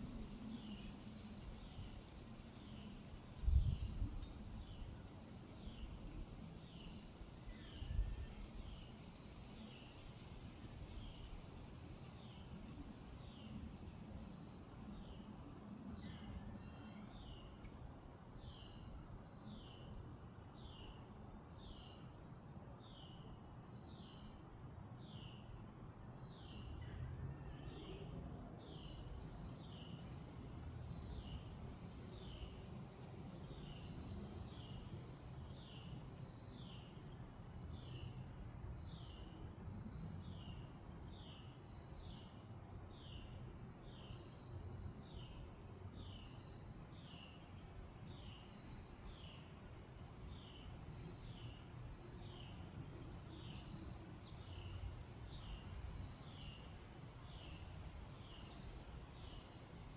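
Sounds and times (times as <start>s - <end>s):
wind blowing through trees: 0.0s - 59.9s.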